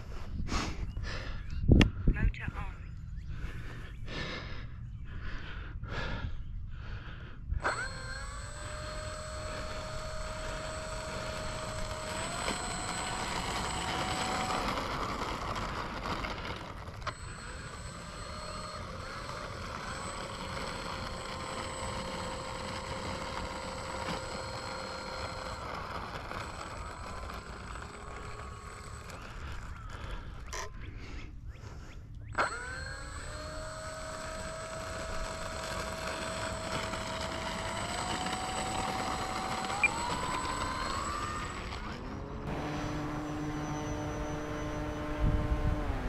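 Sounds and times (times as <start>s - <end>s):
electric motor and propeller whining: 0.0s - 46.0s.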